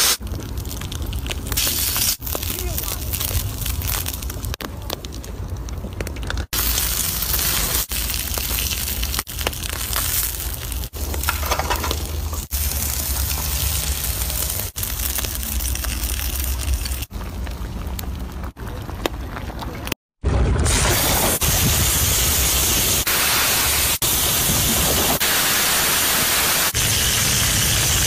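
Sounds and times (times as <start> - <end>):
seafood sizzling on hot stone: 0.0 - 4.6, 6.4 - 17.5, 20.7 - 28.0.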